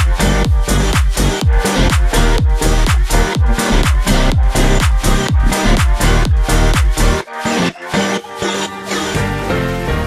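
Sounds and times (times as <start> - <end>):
background music of held notes: 1.5 - 10.0.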